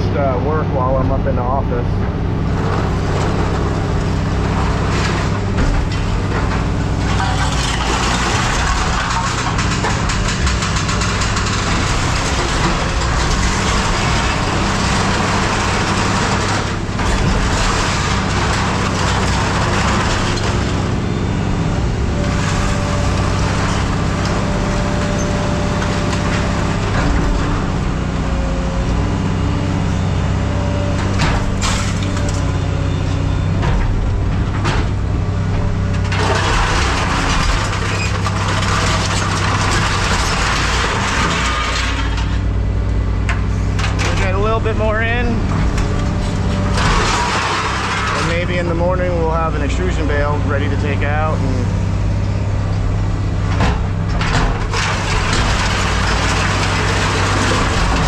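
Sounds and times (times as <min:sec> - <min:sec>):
heavy machine engine running: 0:00.0 - 0:58.0
scrap metal scraping: 0:02.4 - 0:27.8, 0:35.8 - 0:42.6, 0:43.4 - 0:58.0.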